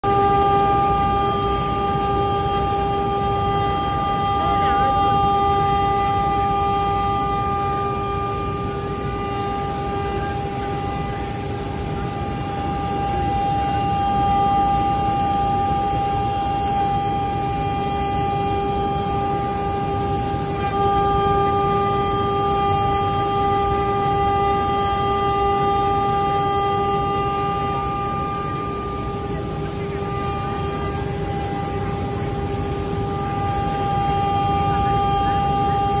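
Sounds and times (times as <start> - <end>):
constant rushing noise: 0.0 - 36.0
router spindle high whine: 0.0 - 36.0.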